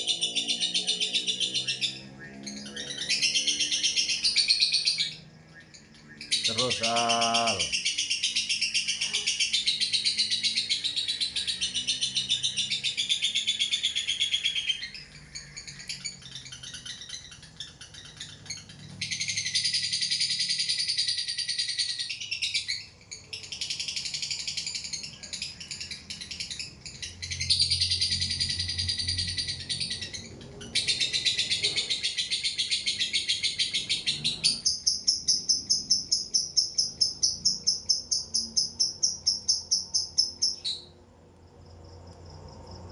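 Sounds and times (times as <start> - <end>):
pulsing bird chirp: 0.0 - 41.2
lovebird shrill chattering trills: 5.8 - 40.9.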